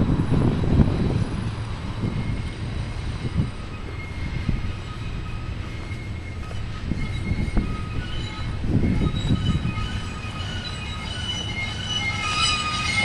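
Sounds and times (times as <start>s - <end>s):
freight train rumbling past: 0.0s - 13.0s
high wheel squeal: 0.0s - 13.0s.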